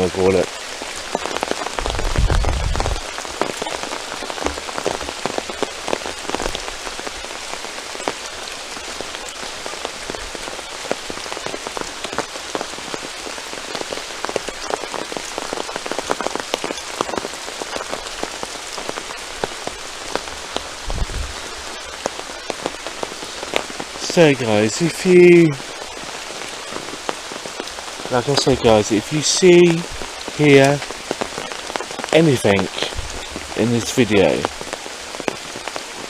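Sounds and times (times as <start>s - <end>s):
raindrops striking close: 0.0s - 36.0s
steady rain falling: 0.0s - 36.0s.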